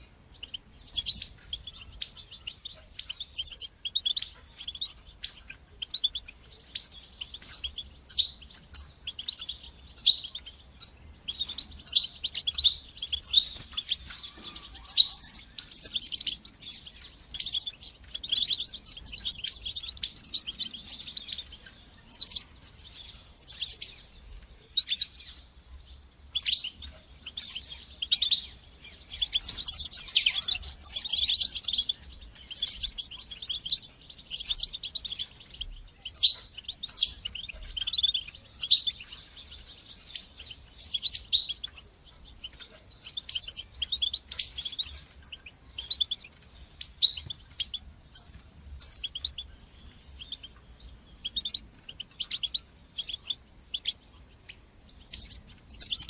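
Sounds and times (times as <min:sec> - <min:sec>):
goldfinch twittering and trilling: 0:00.0 - 0:56.0.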